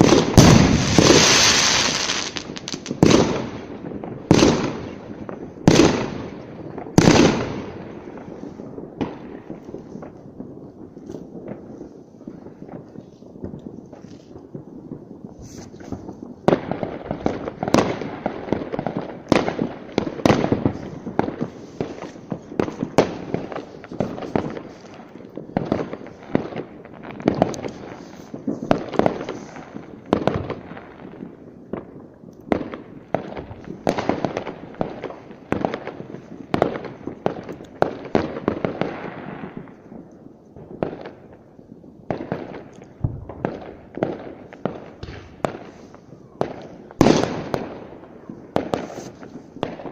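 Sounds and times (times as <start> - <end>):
fireworks bangs: 0.0 - 49.9
fireworks crackle: 0.0 - 49.9.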